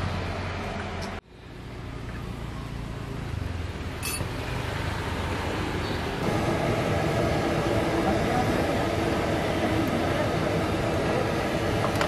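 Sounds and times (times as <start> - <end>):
roadside traffic: 0.0 - 12.0.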